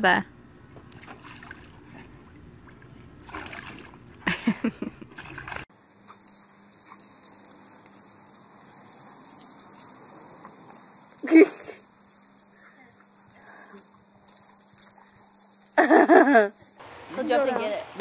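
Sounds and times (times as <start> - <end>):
water splashing in paddling pool: 0.8 - 15.7
garden hose spraying water: 3.2 - 18.0.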